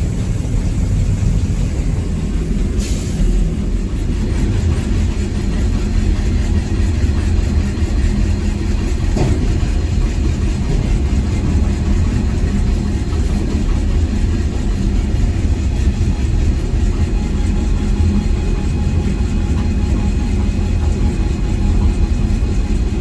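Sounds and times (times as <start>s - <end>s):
heavy machinery engine rumbling: 0.0s - 23.0s.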